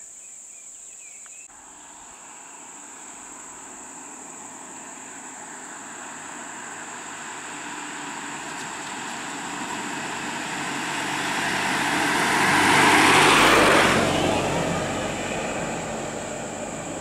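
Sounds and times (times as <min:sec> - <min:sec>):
truck passing by: 0:01.6 - 0:17.0.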